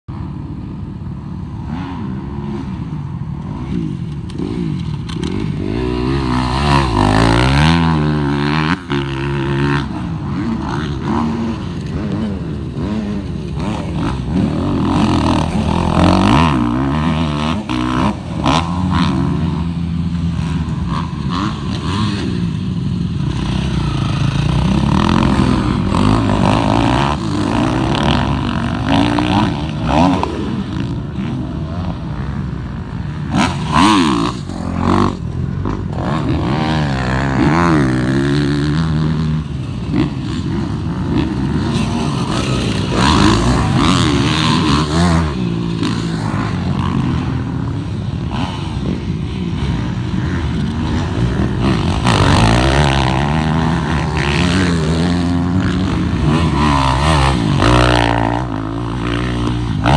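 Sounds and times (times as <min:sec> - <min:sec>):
dirt bike engines revving: 0:00.1 - 0:59.9.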